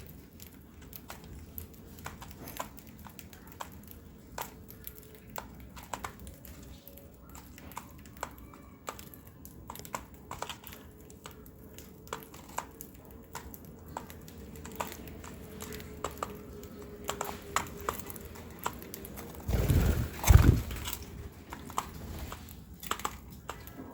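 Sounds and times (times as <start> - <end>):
beak cracking seeds: 0.1 - 23.9.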